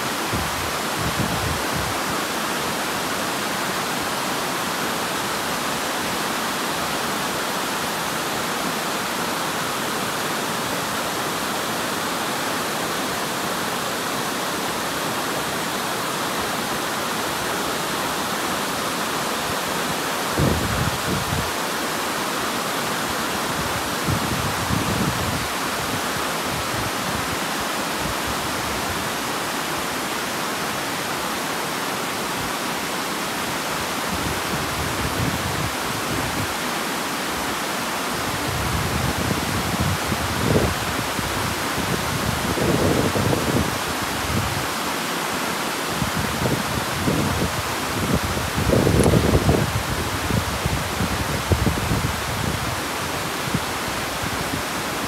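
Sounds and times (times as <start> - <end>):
water rushing over weir: 0.0 - 55.0.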